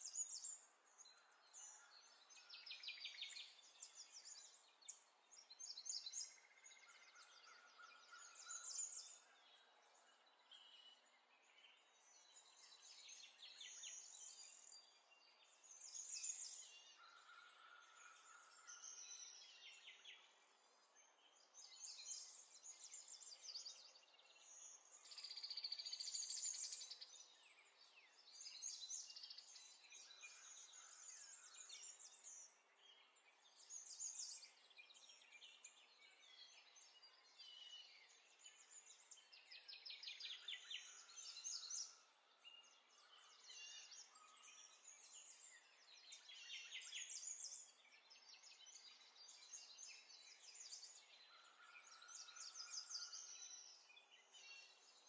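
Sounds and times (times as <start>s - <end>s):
birdsong with trilled chirps: 0.0s - 55.0s.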